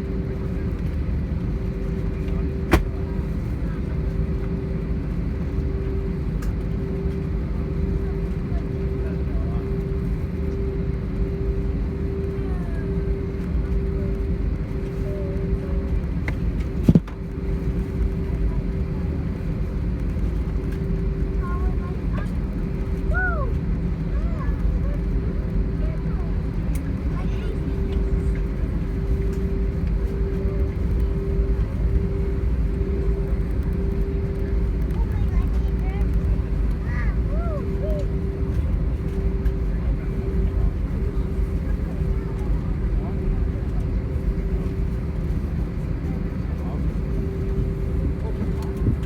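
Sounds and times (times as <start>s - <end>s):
airplane cabin engine rumble: 0.0s - 49.0s
constant hum tone: 0.0s - 49.0s.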